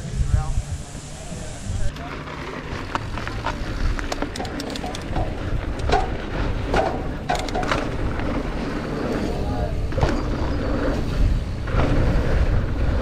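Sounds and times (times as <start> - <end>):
bike rolling over dirt: 1.7 - 13.0
bike clicks and rattles: 1.9 - 13.0.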